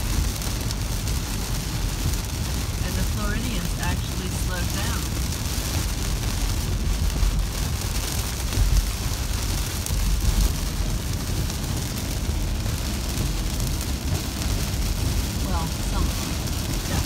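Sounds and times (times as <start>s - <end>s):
heavy rain hitting a car: 0.0s - 17.0s
tyre noise on wet road: 0.0s - 17.0s.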